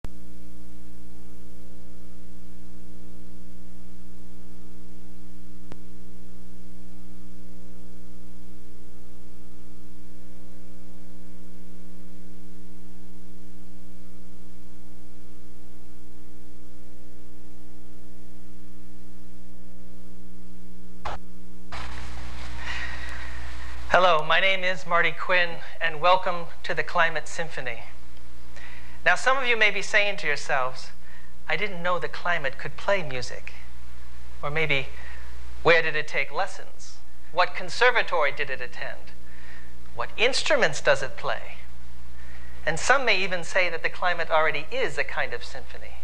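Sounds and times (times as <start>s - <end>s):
electrical mains hum: 0.1s - 46.0s.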